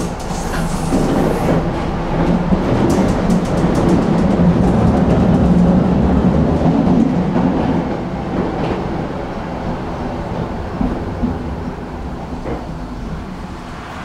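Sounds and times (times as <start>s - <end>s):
tram wheels rumbling on rail: 0.0s - 14.0s.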